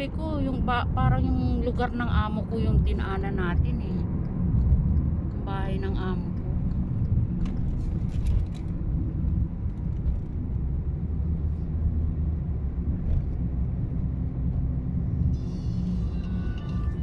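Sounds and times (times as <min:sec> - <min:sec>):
car interior engine and tyre noise: 0:00.0 - 0:17.0.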